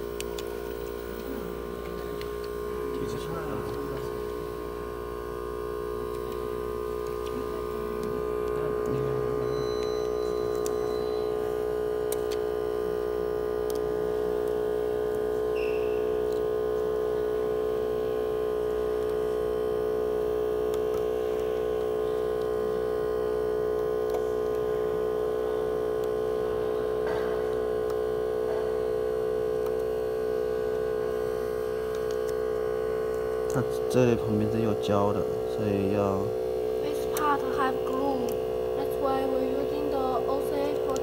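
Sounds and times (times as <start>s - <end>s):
steady electrical hum: 0.0s - 41.0s.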